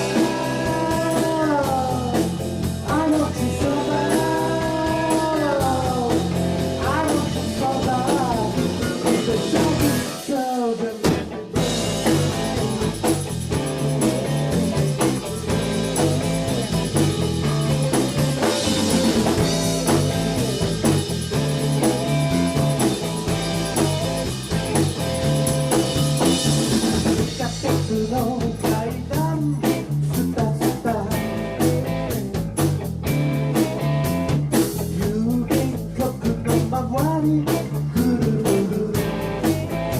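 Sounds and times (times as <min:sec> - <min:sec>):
live blues-rock band playing: 0:00.0 - 0:39.9.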